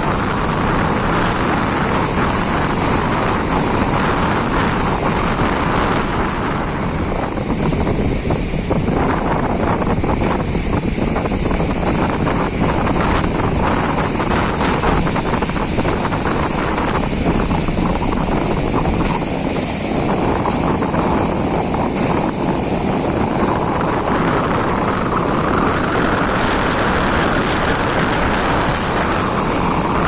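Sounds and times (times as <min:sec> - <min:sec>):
crashing waves: 0:00.0 - 0:30.0
wind buffeting microphone: 0:00.0 - 0:30.0.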